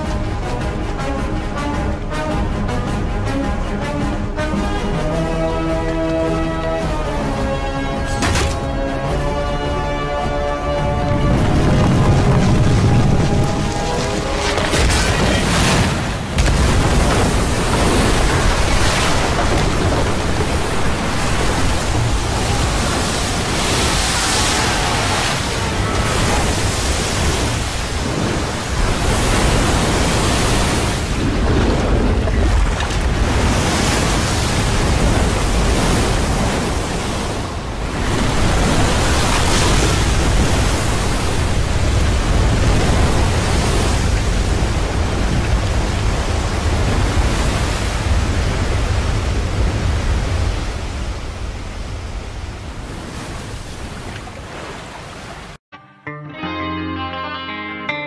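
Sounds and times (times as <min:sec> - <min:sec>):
flood water rushing: 0:00.0 - 0:55.6.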